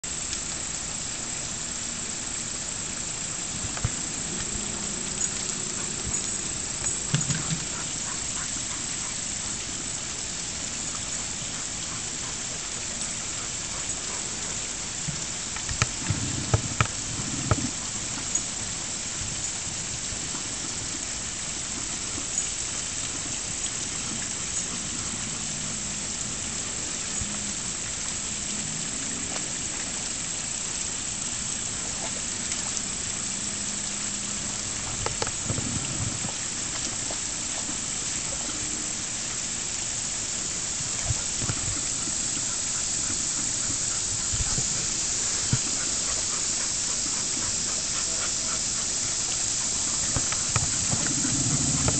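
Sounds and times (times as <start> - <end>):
small waterfall splashing: 0.0 - 51.9.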